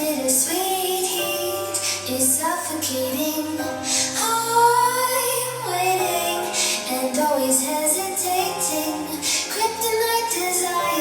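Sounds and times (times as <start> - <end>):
woman singing a song: 0.0 - 11.0.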